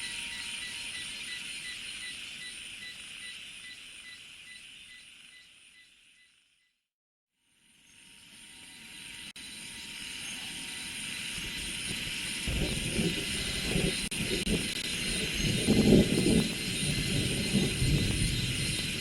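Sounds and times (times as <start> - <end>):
high-pitched insect chorus: 0.0 - 5.9, 7.7 - 19.0.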